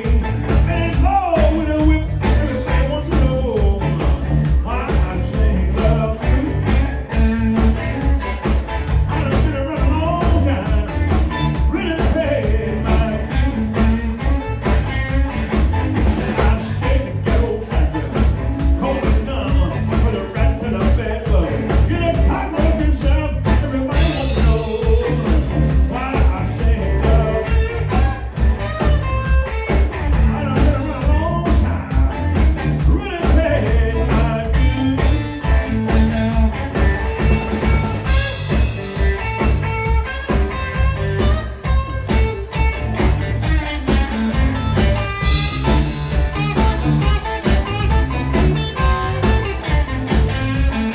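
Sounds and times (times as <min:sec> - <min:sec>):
live blues band playing: 0:00.0 - 0:50.9.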